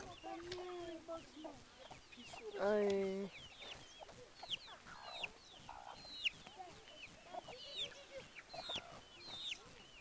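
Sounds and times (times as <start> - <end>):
chickens chirping: 0.0 - 10.0
chickens clucking: 0.0 - 10.0.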